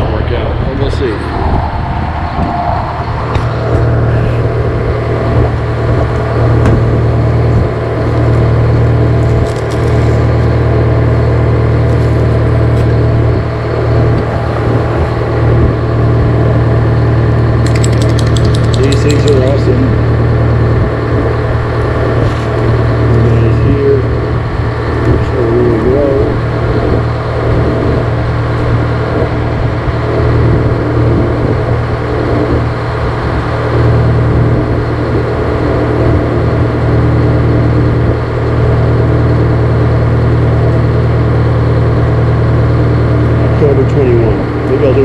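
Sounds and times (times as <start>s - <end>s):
diesel engine idling: 0.0s - 45.0s.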